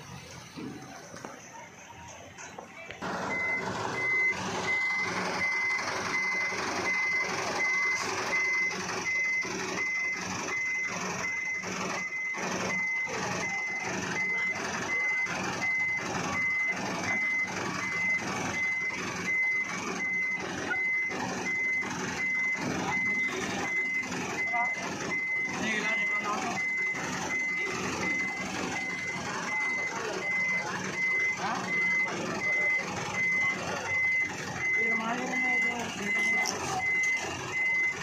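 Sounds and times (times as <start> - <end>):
truck engine running: 0.0 - 38.0
reversing alarm beeping: 3.0 - 38.0.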